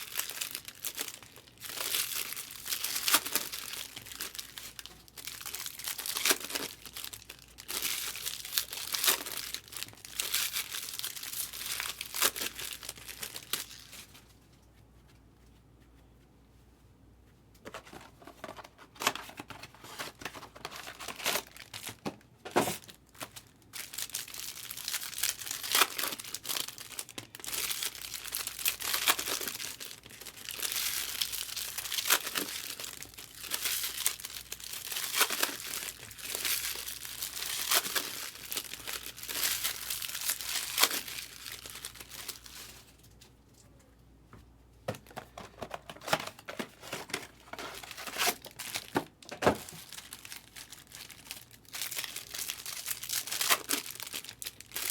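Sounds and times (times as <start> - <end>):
card wrappers tearing and crinkling: 0.0 - 14.2, 17.8 - 43.2, 45.1 - 54.9.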